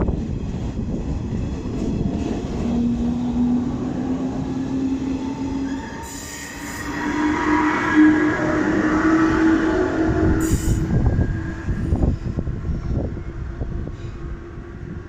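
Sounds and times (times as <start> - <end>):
electric train whine: 0.0 - 15.0
wheel and track rumble: 0.0 - 15.0.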